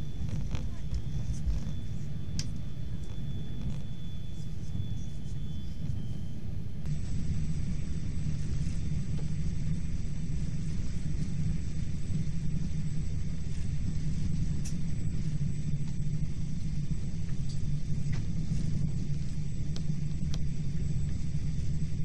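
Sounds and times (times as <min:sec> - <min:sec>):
train rumbling at speed: 0:00.0 - 0:22.0.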